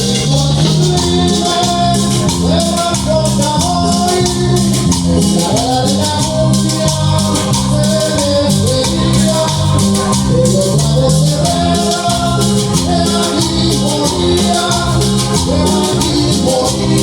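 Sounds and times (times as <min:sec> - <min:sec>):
bass line: 0:00.0 - 0:17.0
rattling shaker beat: 0:00.0 - 0:17.0.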